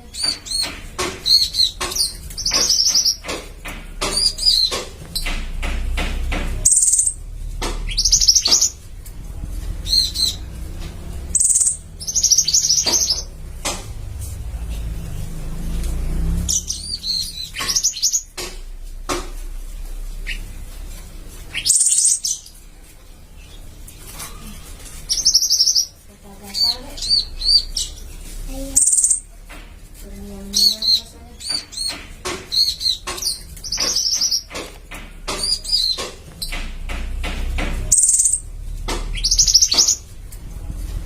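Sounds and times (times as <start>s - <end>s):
caged songbirds chirping and singing: 0.0s - 41.0s
low steady rumble: 1.2s - 31.6s, 32.6s - 41.0s.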